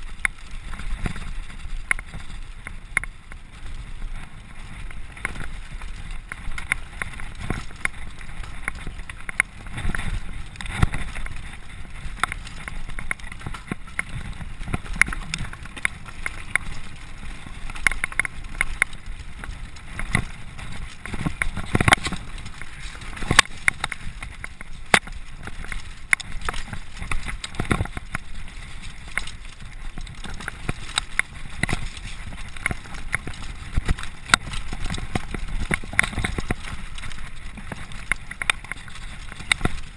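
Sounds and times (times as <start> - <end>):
bike rattling over bumps: 0.0 - 39.9
bike tyre noise: 0.0 - 39.9
wind rumbling on microphone: 0.0 - 39.9.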